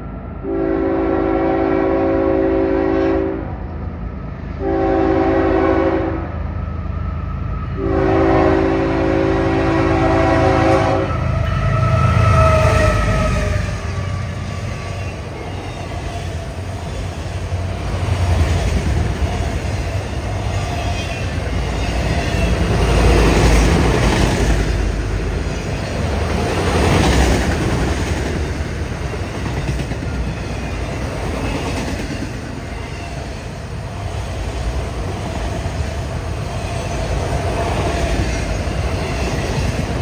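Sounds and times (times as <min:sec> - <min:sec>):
freight cars rolling on rails: 0:07.1 - 0:40.0.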